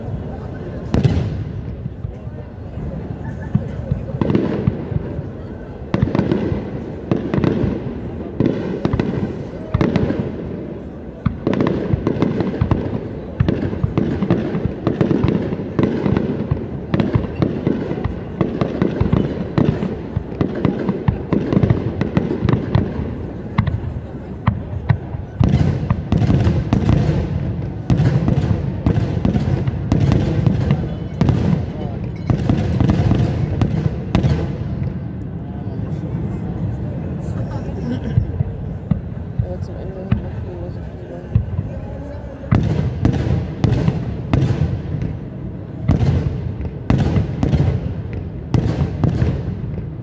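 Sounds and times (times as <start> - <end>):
fireworks bursting with crackle: 0.0 - 50.0.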